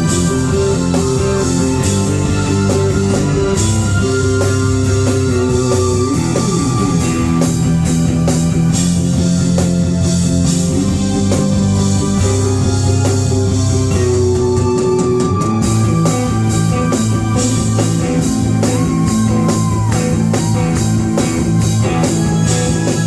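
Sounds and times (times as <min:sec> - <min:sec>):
guitar: 0:00.0 - 0:23.0
live band playing: 0:00.0 - 0:23.0.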